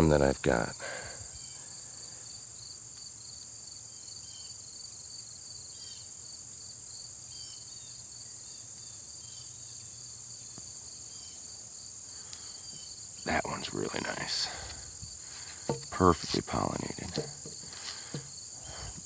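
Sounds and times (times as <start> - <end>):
crickets and insects chirping: 0.0 - 19.0.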